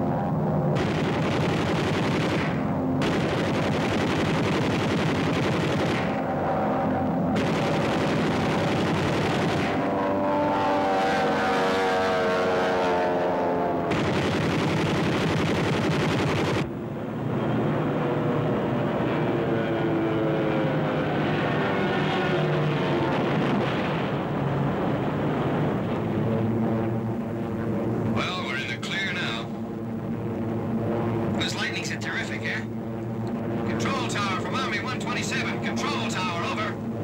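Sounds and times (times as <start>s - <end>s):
fighter aircraft engines droning: 0.0s - 37.0s.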